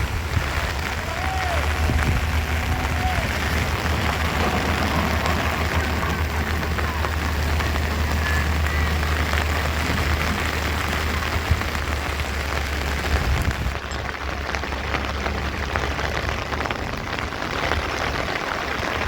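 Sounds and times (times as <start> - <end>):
heavy rain: 0.0 - 19.0
low rumble: 0.0 - 19.0.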